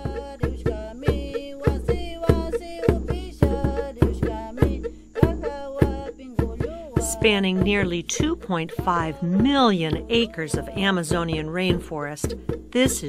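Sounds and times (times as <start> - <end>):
music with drum beat and melody: 0.0 - 13.0.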